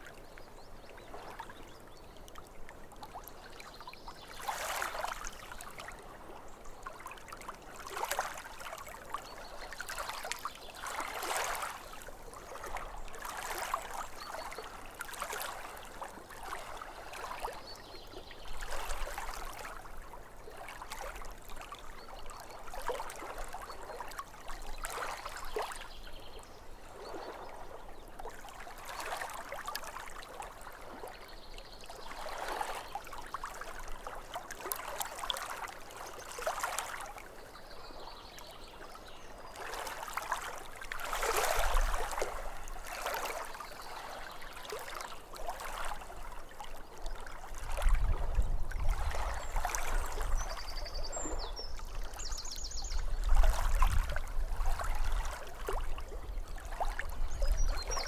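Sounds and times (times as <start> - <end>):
water lapping against shore: 0.0 - 58.0.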